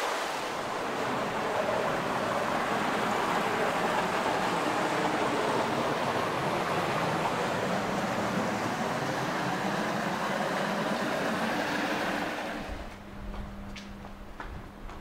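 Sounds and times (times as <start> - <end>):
water flowing and splashing: 0.0 - 12.9.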